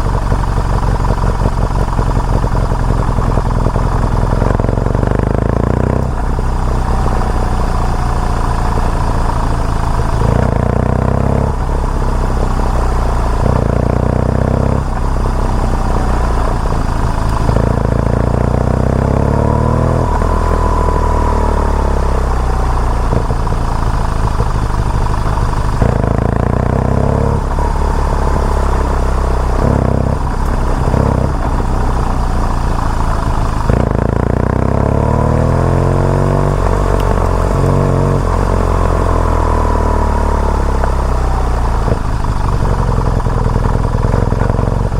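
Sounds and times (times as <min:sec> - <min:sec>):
motorcycle engine revving: 0:00.0 - 0:44.9
road noise: 0:00.0 - 0:44.9.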